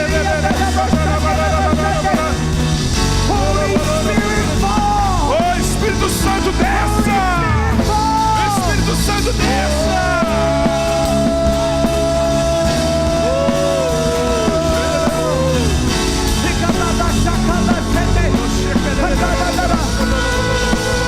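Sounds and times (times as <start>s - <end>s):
several voices singing: 0.0s - 21.0s
worship band playing: 0.0s - 21.0s.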